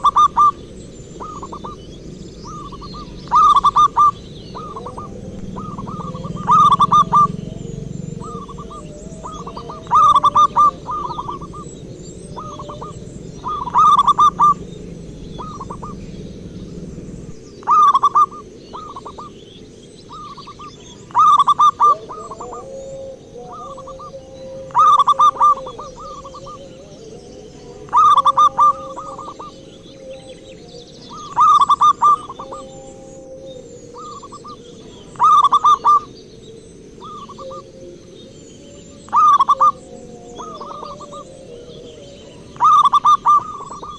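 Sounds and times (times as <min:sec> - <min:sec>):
dove cooing: 0:00.0 - 0:19.5, 0:20.1 - 0:43.9.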